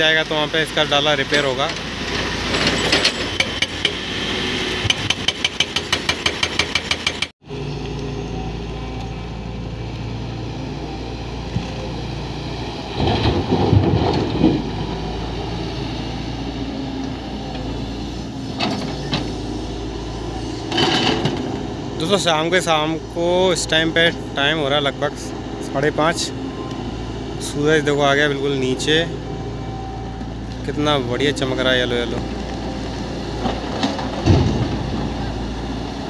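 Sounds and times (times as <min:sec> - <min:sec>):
diesel engines running under load: 0:00.0 - 0:36.0.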